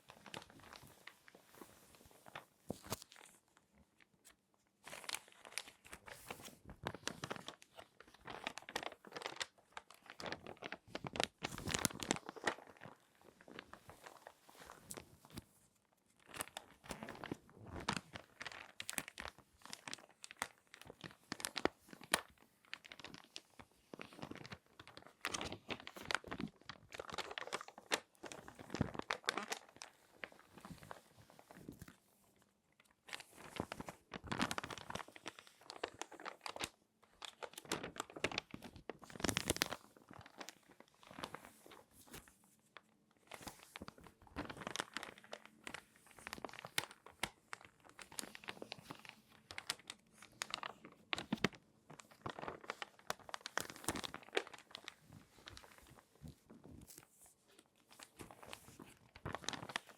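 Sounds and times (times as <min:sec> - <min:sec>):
magazine pages crinkling: 0:00.0 - 0:03.4, 0:04.8 - 0:15.5, 0:16.2 - 0:32.0, 0:32.8 - 0:42.4, 0:43.2 - 0:59.9.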